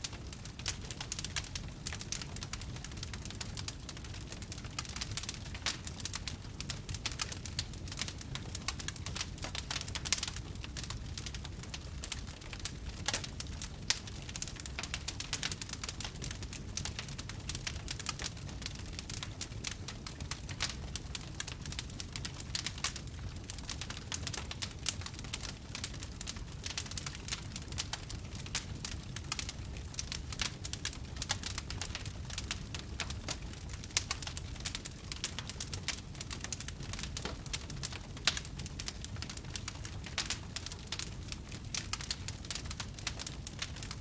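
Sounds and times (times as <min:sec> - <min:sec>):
campfire crackling: 0:00.0 - 0:44.0
fire low rumble: 0:00.0 - 0:44.0.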